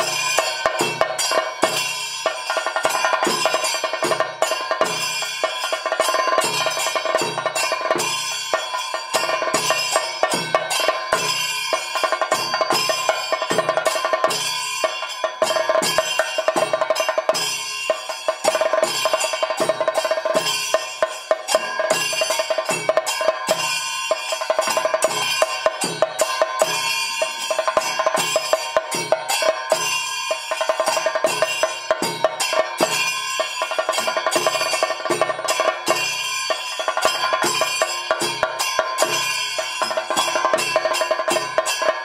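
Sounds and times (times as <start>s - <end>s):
fast drum strokes: 0.0s - 42.0s
metallic ringing: 0.0s - 42.0s.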